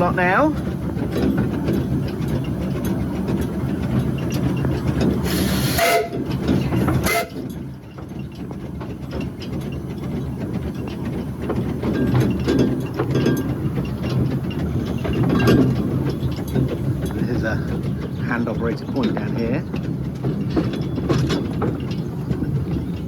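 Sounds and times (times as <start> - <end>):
steam locomotive rumbling: 0.0 - 23.0.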